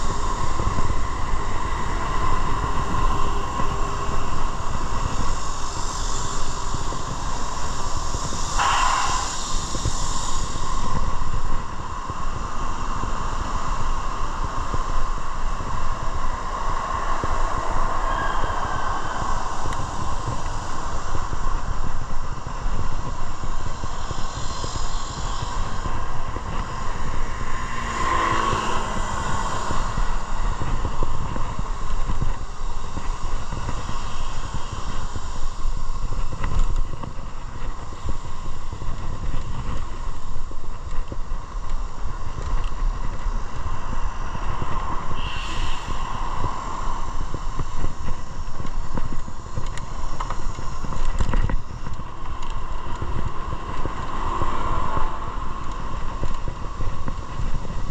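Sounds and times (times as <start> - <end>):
constant engine drone: 0.0 - 57.9
road and wind noise: 0.0 - 57.9.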